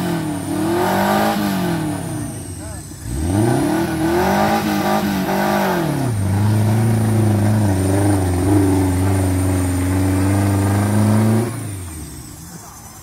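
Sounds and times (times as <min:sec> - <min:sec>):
car engine revving hard: 0:00.0 - 0:12.3.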